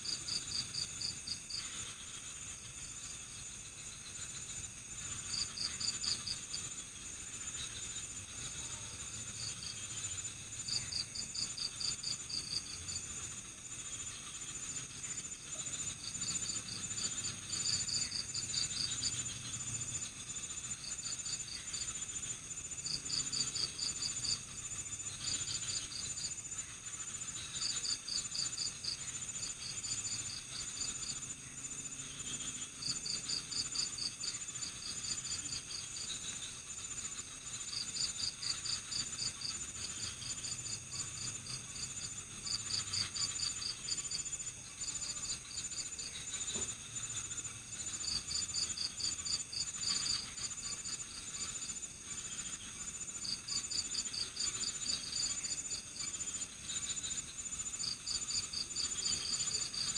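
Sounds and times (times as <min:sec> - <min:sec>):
cricket chirping in pulsed bursts: 0:00.0 - 0:59.9
high-pitched cricket trill: 0:00.0 - 0:59.9.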